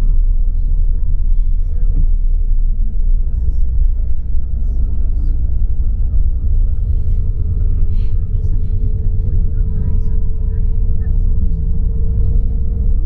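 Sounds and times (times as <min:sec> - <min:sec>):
bus engine and tyres rumbling: 0:00.0 - 0:13.0.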